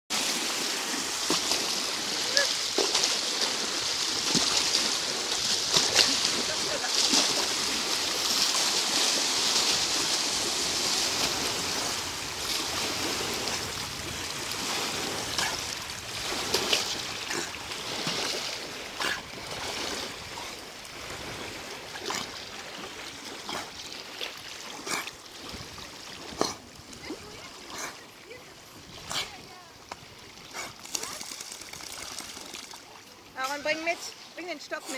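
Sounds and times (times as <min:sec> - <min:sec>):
sharp water splashes: 0:00.1 - 0:34.9
waves lapping at shore: 0:00.1 - 0:34.9.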